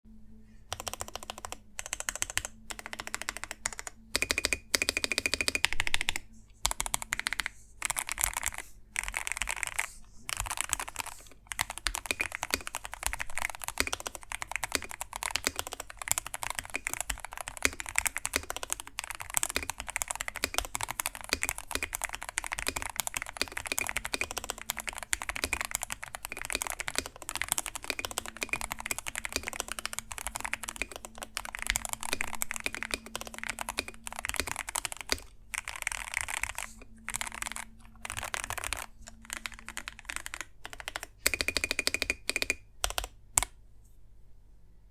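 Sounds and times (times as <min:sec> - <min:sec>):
typing on mechanical keyboard: 0:00.7 - 0:43.6.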